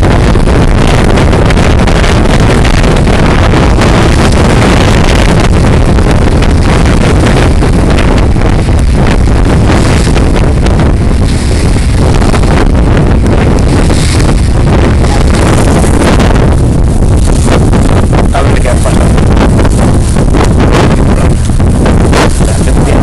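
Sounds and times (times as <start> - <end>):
boat running: 0.0 - 23.0
water beneath boat: 0.0 - 23.0
wind buffeting microphone: 0.0 - 23.0.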